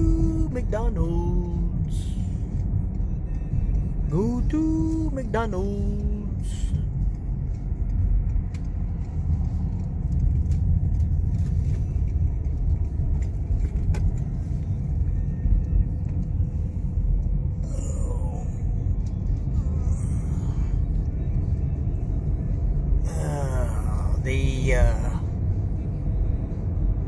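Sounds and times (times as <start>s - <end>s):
low vehicle rumble: 0.0s - 27.0s.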